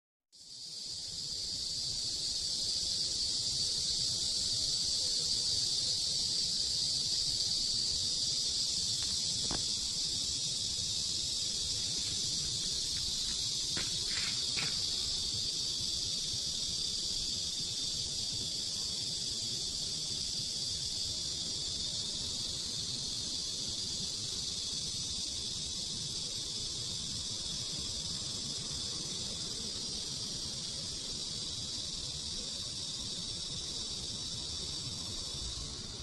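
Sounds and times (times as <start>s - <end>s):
cicadas singing: 0.4s - 36.0s.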